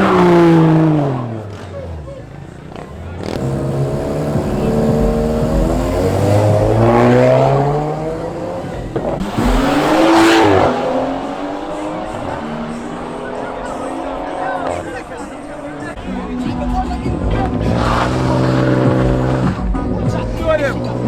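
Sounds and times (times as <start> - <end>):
car engine revving hard: 0.0 - 21.0
tyre and exhaust noise: 0.0 - 21.0.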